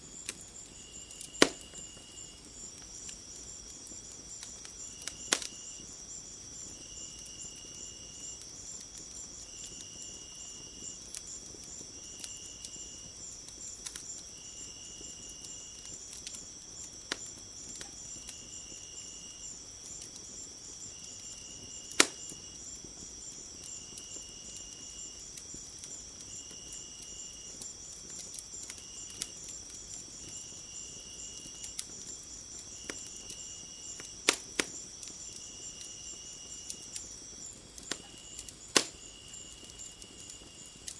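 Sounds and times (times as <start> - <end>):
crickets chirping and trilling: 0.0 - 40.9
wood fire crackling and popping: 0.0 - 40.9.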